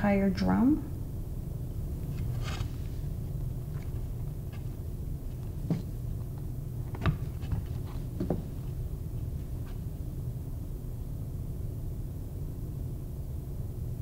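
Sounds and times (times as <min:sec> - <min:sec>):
low room rumble: 0:00.0 - 0:14.0.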